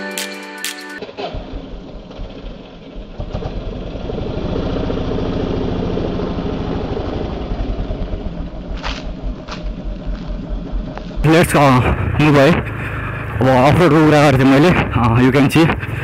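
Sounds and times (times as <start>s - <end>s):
motorcycle engine idling and revving: 1.0s - 16.0s.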